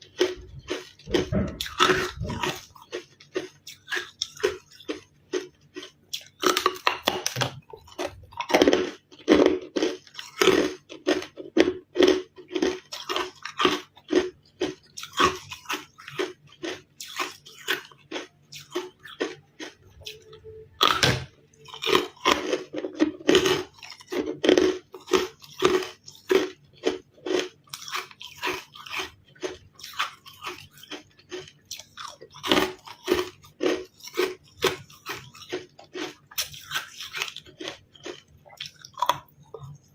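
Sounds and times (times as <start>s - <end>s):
person crunching ice: 0.0s - 39.3s.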